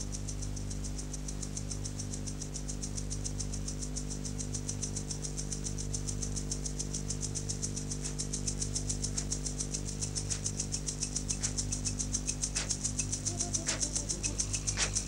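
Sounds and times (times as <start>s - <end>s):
electrical hum: 0.0s - 15.0s
fast high-pitched ticking: 0.0s - 15.0s.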